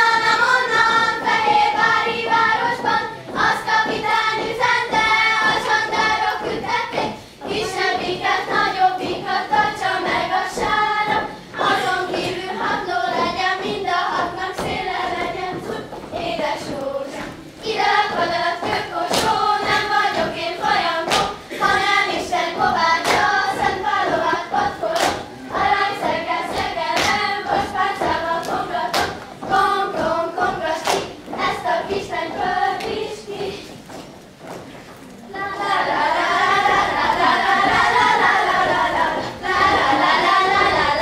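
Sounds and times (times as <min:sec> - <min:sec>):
dance steps thudding on stage: 0:00.0 - 0:41.0
girls singing folk song: 0:00.0 - 0:41.0.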